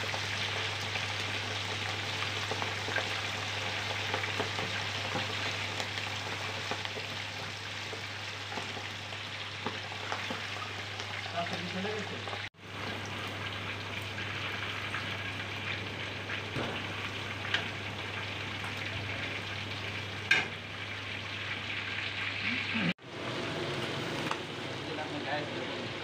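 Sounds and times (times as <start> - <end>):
chicken deep-frying in oil: 0.0 - 26.0.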